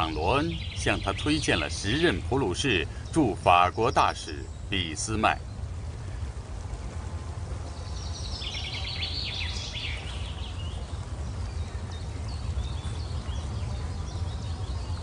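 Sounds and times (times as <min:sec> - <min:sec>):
birds chirping and trilling: 0:00.0 - 0:06.4, 0:07.6 - 0:15.0.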